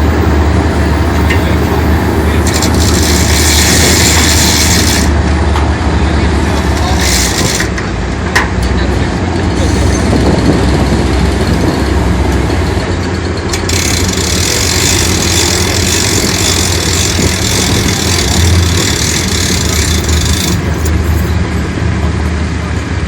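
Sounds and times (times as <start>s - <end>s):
large engine idling: 0.0s - 23.0s.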